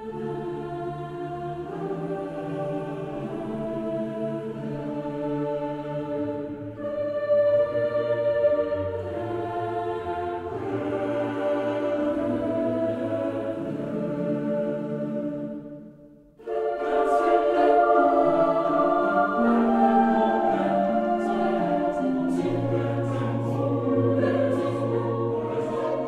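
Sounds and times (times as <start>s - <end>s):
choir singing long notes: 0.0s - 26.0s.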